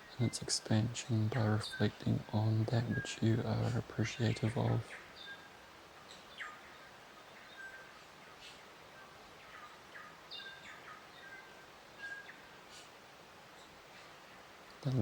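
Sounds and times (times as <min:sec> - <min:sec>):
birds chirping: 0:00.0 - 0:15.0
outdoor ambient hiss: 0:00.0 - 0:15.0.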